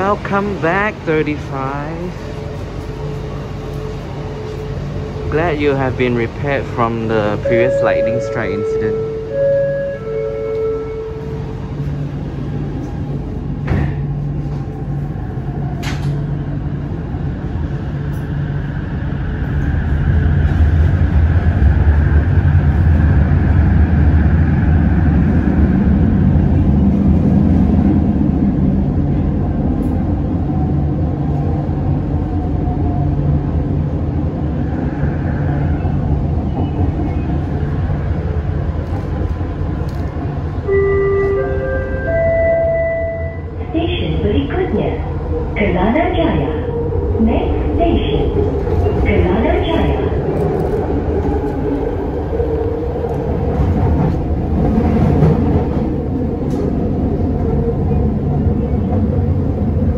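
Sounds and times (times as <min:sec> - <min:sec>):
metro train running rumble: 0:00.0 - 0:59.9.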